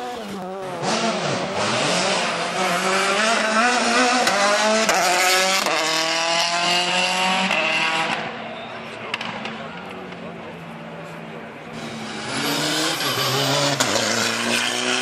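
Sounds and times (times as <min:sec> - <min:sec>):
car engine accelerating: 0:00.0 - 0:08.4, 0:09.0 - 0:15.0.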